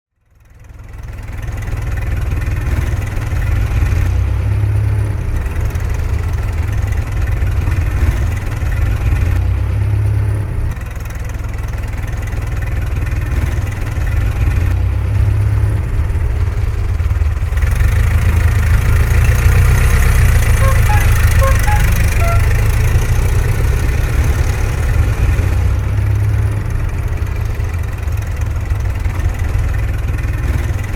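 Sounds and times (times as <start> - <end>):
car engine idling: 0.4 - 30.9.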